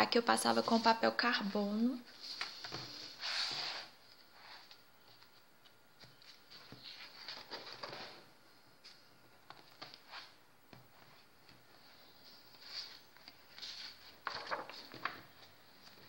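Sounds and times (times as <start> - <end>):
paper pages rustling: 2.2 - 16.0.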